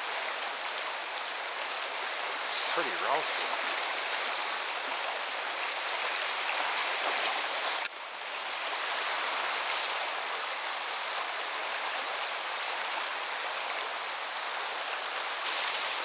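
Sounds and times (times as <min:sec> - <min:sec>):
fast river current rushing: 0:00.0 - 0:16.0.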